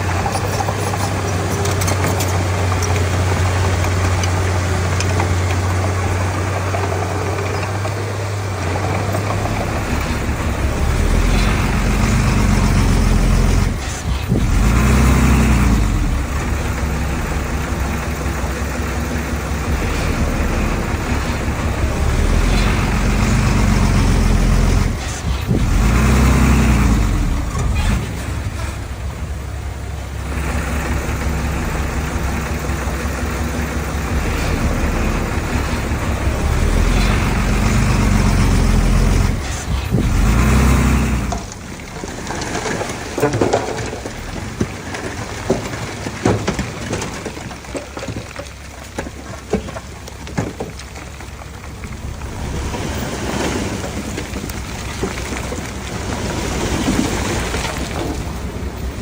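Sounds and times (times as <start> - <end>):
heavy diesel engine revving: 0.0 - 59.0.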